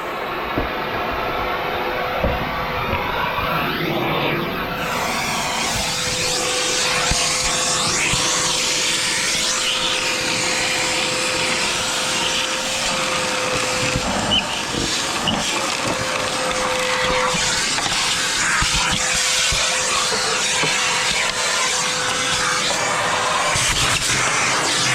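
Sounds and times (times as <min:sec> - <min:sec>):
motor blowing air with whine: 0:00.0 - 0:24.9.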